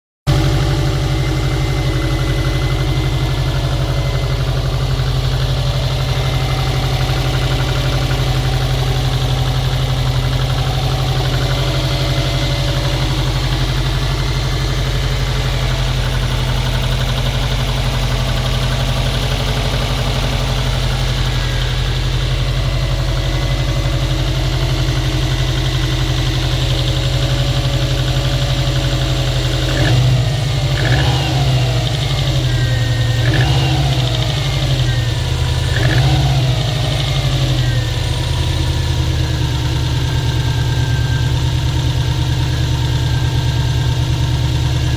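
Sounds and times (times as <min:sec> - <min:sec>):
car engine idling with knock: 0:00.3 - 0:44.9.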